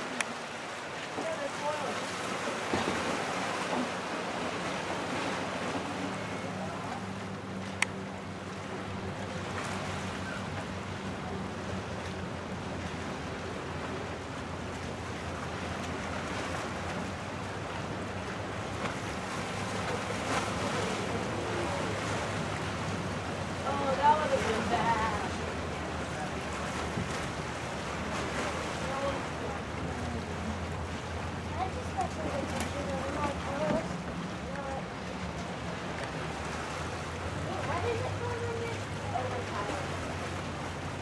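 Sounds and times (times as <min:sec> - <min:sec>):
motorboat engine hum: 0:00.0 - 0:41.0.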